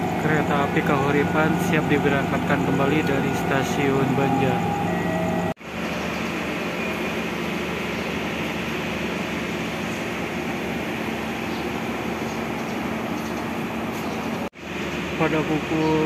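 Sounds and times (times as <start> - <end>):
steady low hum: 0.0 - 16.0
train running noise from aboard: 0.0 - 16.0.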